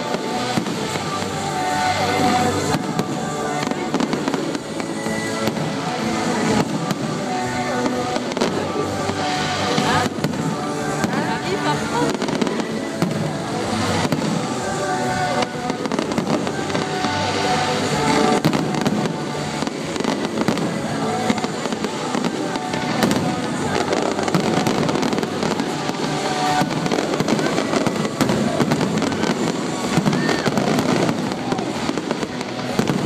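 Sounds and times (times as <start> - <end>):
fireworks bangs and crackling: 0.0 - 33.0
loud music: 0.0 - 33.0.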